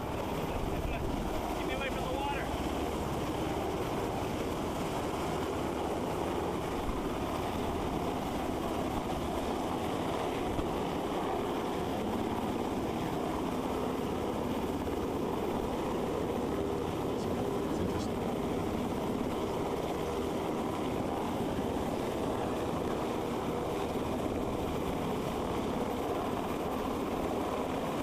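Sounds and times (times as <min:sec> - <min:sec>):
helicopter rotor noise: 0:00.0 - 0:28.0.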